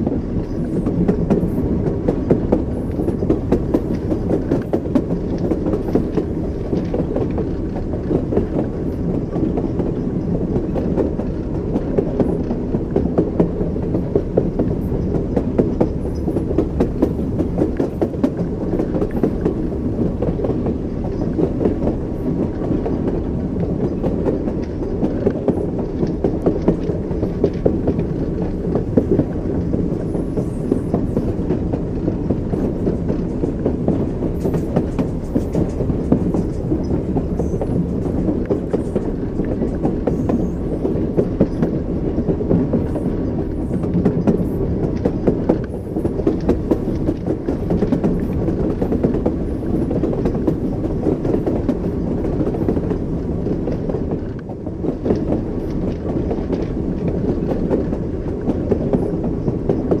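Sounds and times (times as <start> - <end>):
moving train rumble: 0.0 - 60.0
train wheels clattering: 0.0 - 60.0.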